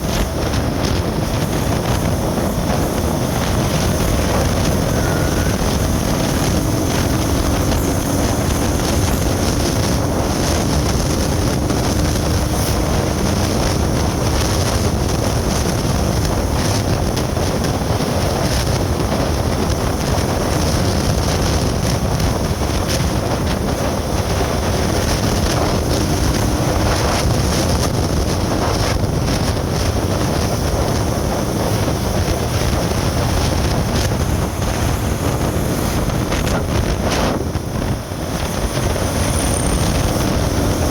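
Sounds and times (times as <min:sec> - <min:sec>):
vehicle road and wind noise: 0:00.0 - 0:40.9
wind buffeting microphone: 0:00.0 - 0:40.9.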